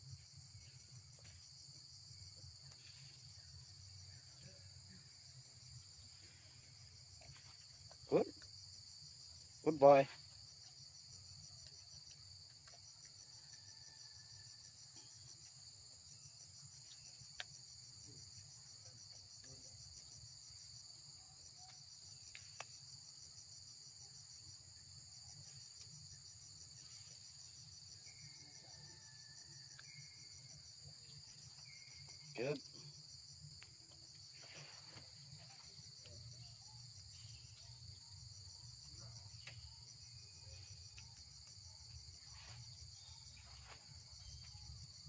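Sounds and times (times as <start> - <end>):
insects trilling: 0.0 - 45.0.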